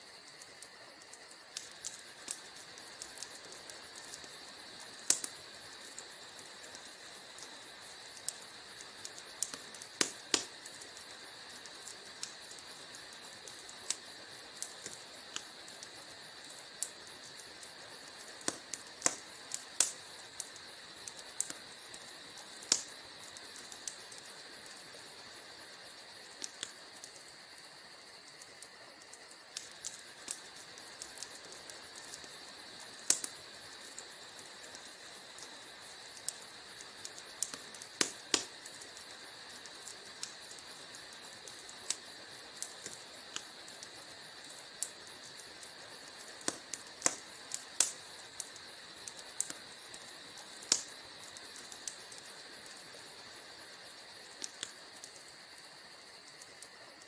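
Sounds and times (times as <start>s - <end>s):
steady high hiss: 0.0s - 57.0s
wood fire crackling: 0.0s - 57.0s.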